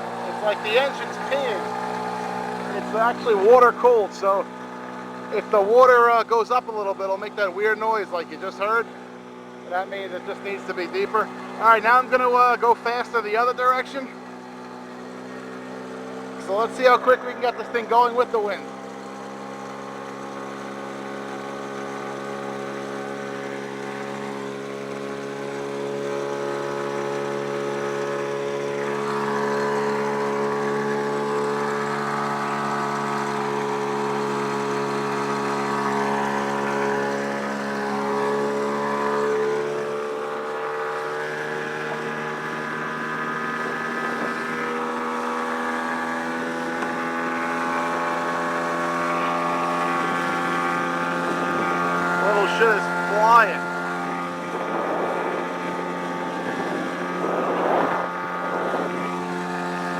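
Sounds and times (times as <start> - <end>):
outboard motor droning: 0.0 - 59.9.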